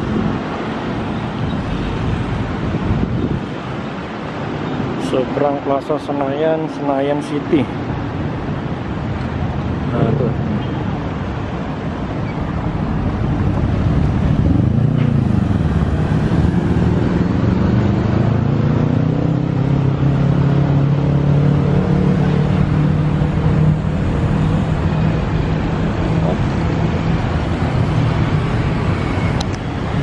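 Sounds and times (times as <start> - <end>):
street traffic: 0.0 - 30.0.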